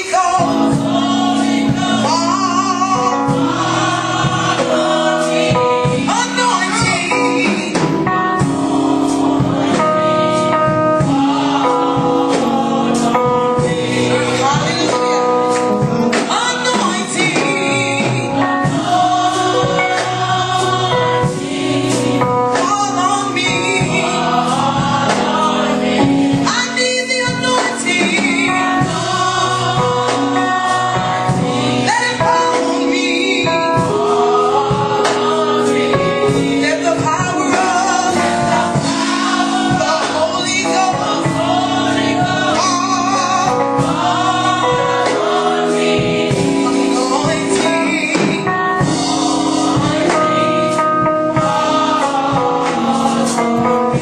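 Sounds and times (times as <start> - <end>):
women's gospel choir singing: 0.0 - 54.0.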